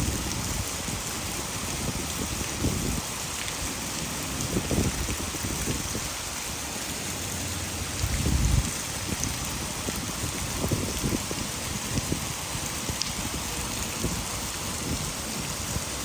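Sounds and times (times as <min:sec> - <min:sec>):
heavy rain falling: 0:00.0 - 0:16.0
water pouring from a dam: 0:00.0 - 0:16.0.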